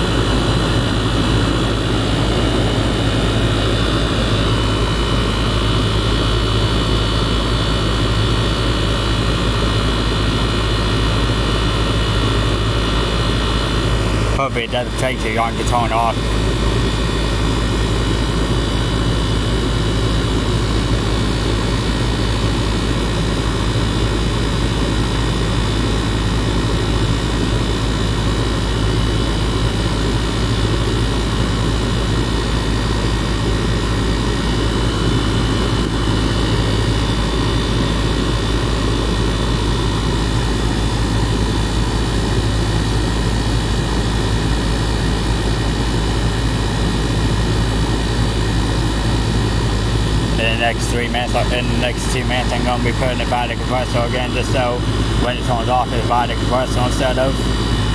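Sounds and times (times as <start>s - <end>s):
compressor humming: 0.0s - 57.9s
fan rushing: 0.0s - 57.9s.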